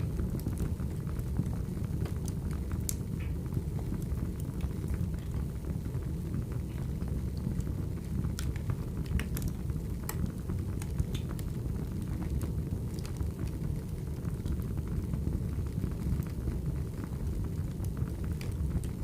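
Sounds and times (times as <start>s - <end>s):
logs crackling and popping: 0.0s - 19.0s
wood fire rumbling: 0.0s - 19.0s.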